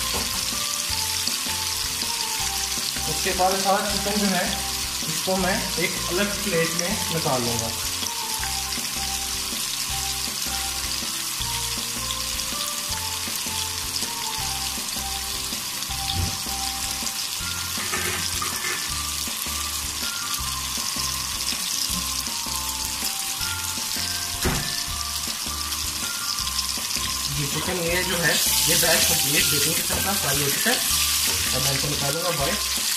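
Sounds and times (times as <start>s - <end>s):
background music: 0.0s - 32.9s
chicken deep-frying in oil: 0.0s - 32.9s.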